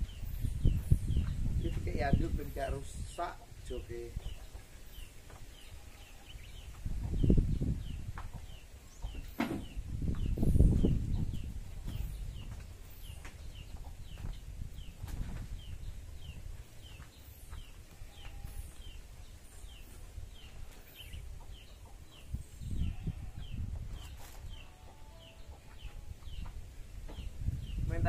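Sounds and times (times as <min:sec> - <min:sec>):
bird peeping: 0:00.0 - 0:03.2, 0:03.9 - 0:28.0.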